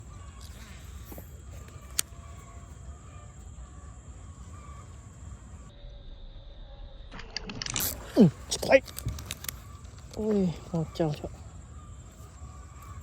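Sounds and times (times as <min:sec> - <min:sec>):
faint bird calls: 0:00.0 - 0:05.8, 0:07.8 - 0:13.0.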